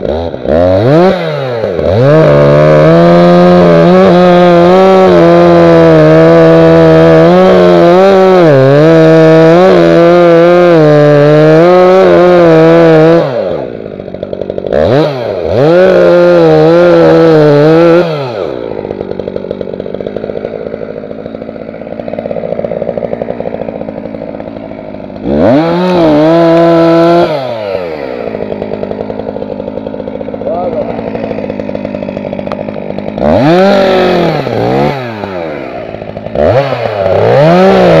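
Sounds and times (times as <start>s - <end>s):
chainsaw cutting and idling: 0.0s - 38.0s.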